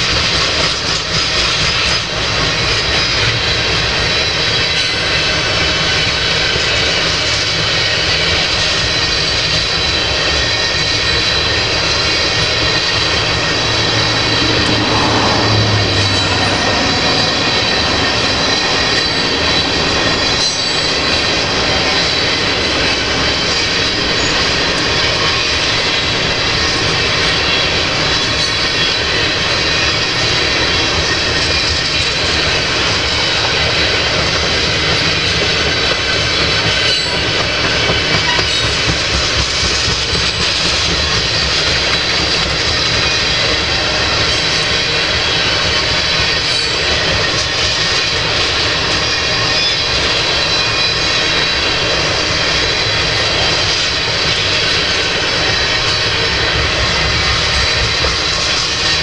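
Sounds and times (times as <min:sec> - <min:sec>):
steel train wheels on rails: 0:00.0 - 0:59.0.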